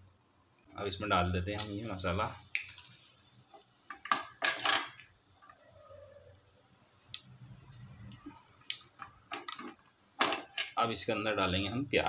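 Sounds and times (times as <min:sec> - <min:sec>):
spices crackling in hot oil: 0:00.0 - 0:12.0.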